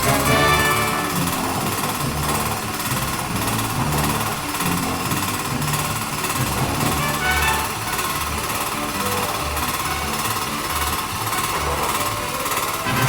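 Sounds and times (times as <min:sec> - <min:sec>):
concrete mixer rattling: 0:00.0 - 0:13.0.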